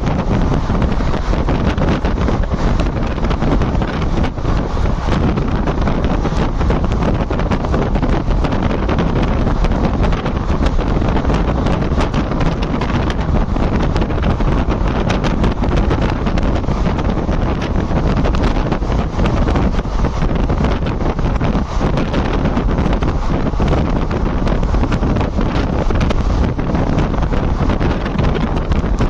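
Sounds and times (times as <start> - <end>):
train running: 0.0 - 29.0
wind on microphone: 0.0 - 29.0.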